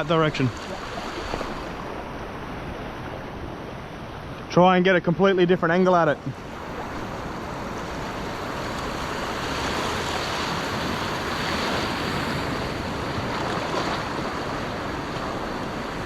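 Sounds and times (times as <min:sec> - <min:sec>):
surf washing against rocks: 0:00.0 - 0:16.0.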